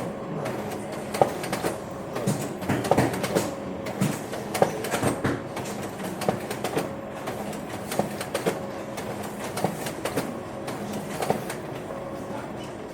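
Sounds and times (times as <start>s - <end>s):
photocopier mechanical hum: 0.0s - 12.9s
photocopier clicks and clacks: 0.3s - 12.7s.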